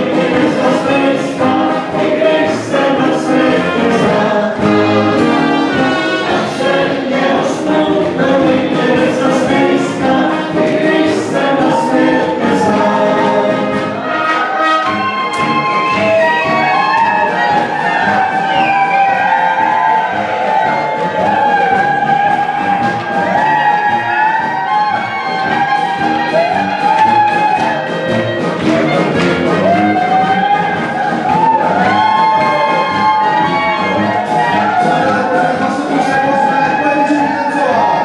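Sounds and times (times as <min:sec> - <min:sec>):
brass band music: 0:00.0 - 0:38.0
voices singing along: 0:00.0 - 0:38.0.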